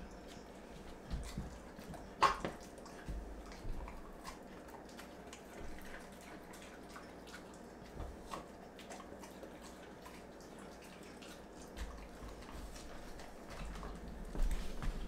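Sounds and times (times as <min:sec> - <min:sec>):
dog licking and chewing: 0:00.1 - 0:15.0.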